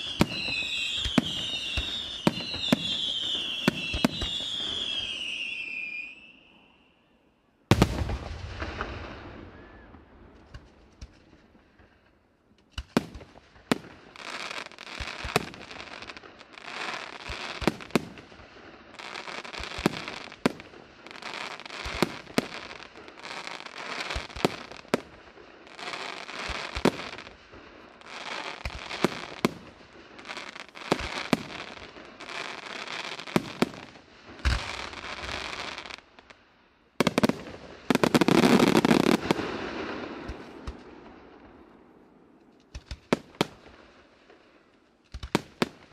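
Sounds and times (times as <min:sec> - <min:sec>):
crackling firework stars: 0:00.0 - 0:45.9.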